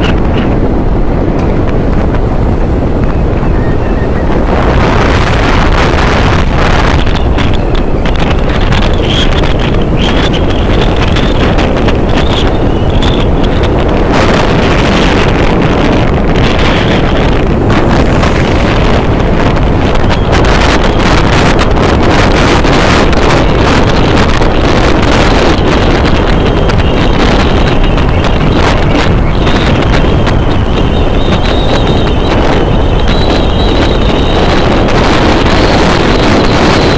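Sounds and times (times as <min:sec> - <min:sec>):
road noise: 0:00.0 - 0:36.9
vehicle engine: 0:00.0 - 0:36.9
wind buffeting microphone: 0:00.0 - 0:36.9.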